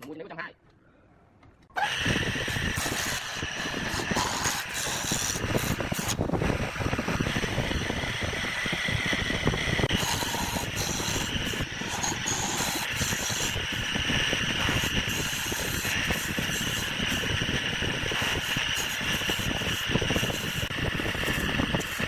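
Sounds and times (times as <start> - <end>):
woodworking machine cutting: 1.8 - 22.0.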